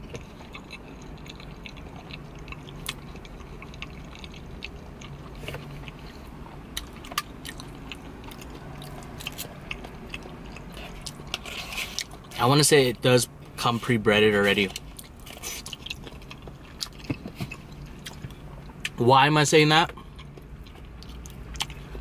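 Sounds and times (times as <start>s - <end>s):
chewing food: 0.0s - 12.4s, 14.4s - 19.0s, 19.9s - 22.0s
steady low hum: 0.0s - 22.0s.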